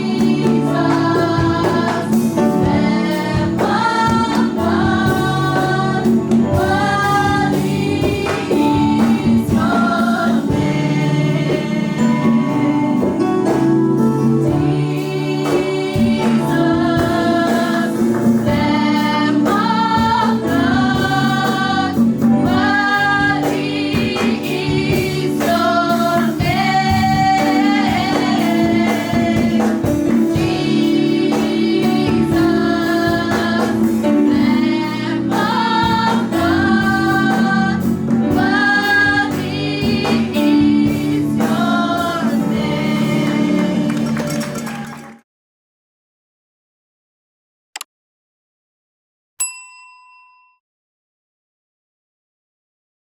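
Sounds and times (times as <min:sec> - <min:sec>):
choir singing over a band: 0:00.0 - 0:44.7.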